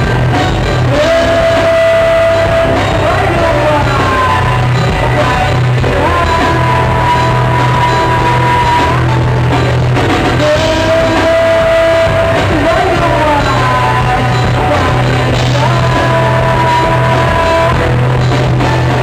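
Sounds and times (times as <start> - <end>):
person singing long notes: 0.0 - 9.5, 10.3 - 19.0
rock band playing: 0.0 - 19.0
steady bass line: 0.0 - 19.0.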